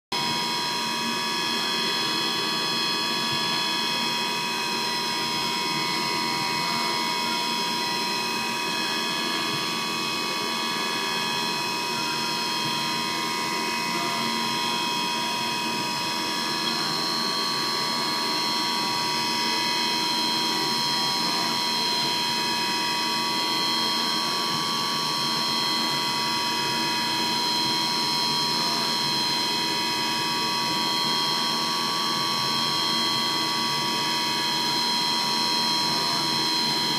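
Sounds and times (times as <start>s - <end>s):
high-pitched machine tones: 0.2s - 36.9s
milling machine running: 1.1s - 36.9s.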